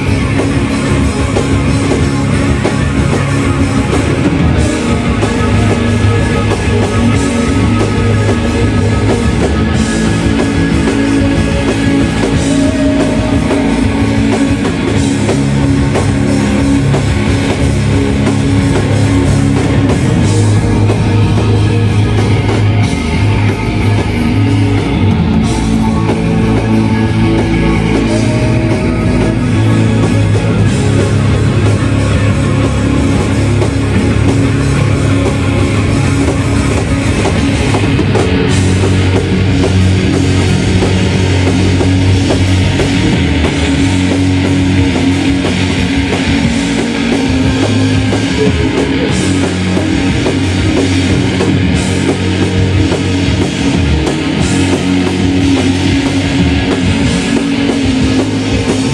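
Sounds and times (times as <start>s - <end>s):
bass guitar: 0.0s - 58.9s
distorted electric guitars: 0.0s - 58.9s
drum kit: 0.0s - 58.9s.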